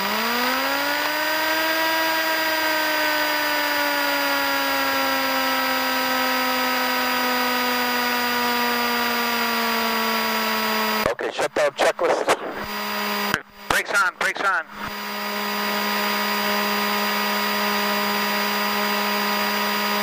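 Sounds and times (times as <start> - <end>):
aircraft engine and propeller: 0.0 - 20.0.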